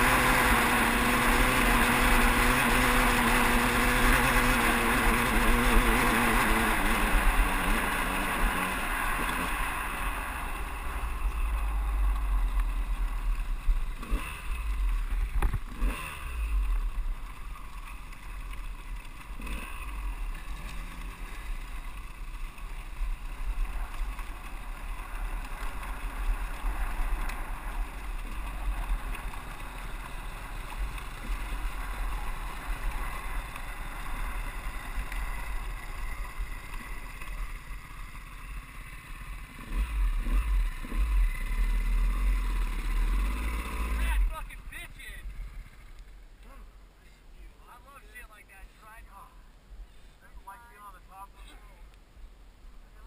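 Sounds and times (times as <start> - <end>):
dirt bike engine: 0.0 - 53.0.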